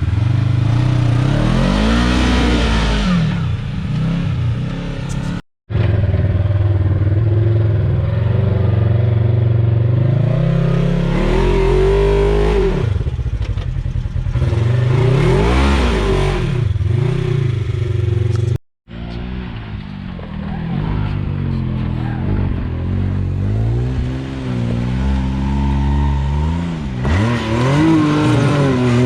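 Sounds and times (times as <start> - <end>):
engine revving: 0.0 - 29.0.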